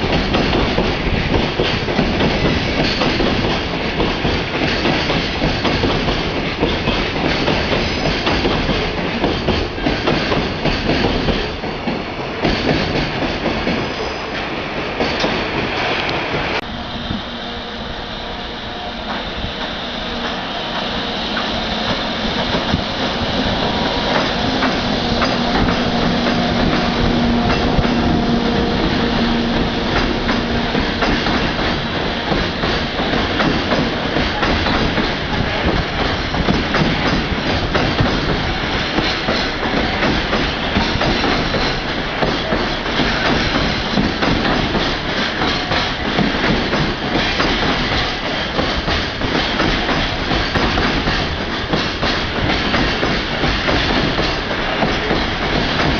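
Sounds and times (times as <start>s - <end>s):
train wheels clattering: 0.0s - 17.3s, 19.0s - 55.9s.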